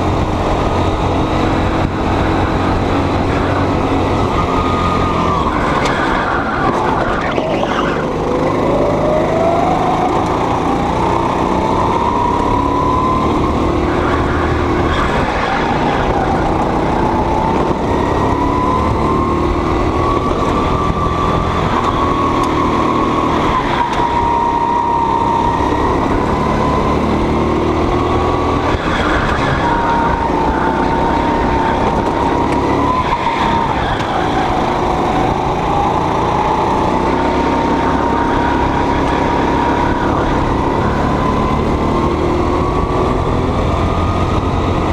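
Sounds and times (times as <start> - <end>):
go-kart engine revving: 0.0 - 44.9.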